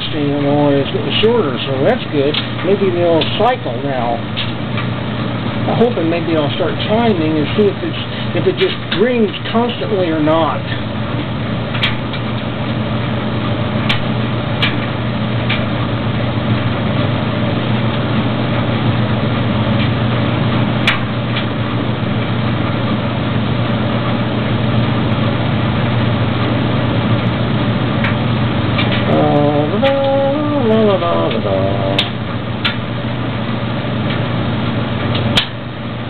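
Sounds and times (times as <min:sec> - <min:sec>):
clothes dryer humming: 0:00.0 - 0:36.0.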